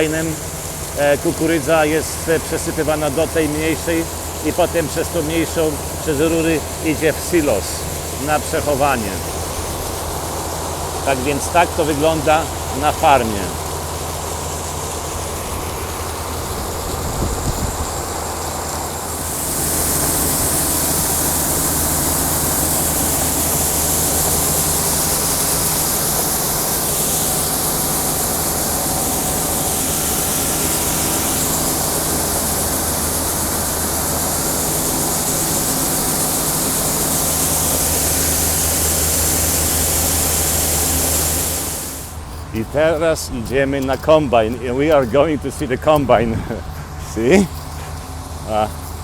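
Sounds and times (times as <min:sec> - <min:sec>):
grain rushing hiss: 0:00.0 - 0:49.0.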